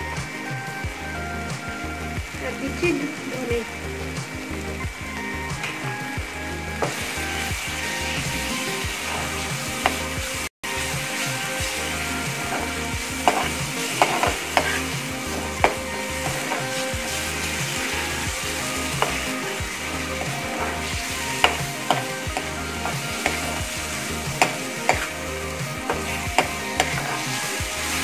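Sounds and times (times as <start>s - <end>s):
paste sizzling in oil: 0.0s - 28.0s.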